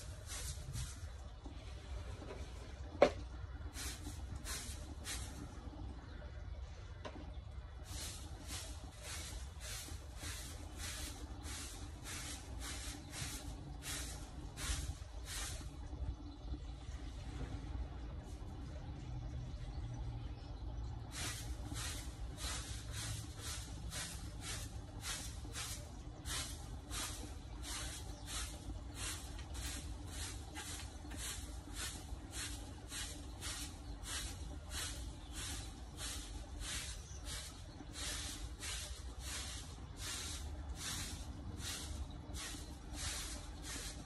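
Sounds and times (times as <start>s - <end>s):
stiff broom sweeping artificial grass: 0.0s - 6.3s, 6.9s - 16.2s, 20.3s - 44.0s.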